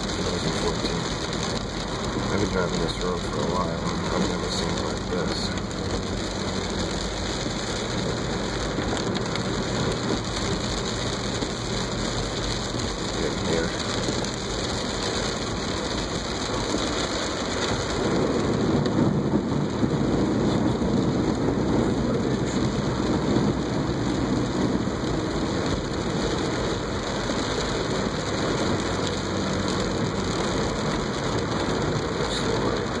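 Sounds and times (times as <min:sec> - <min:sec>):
floodwater rushing and spraying: 0:00.0 - 0:33.0.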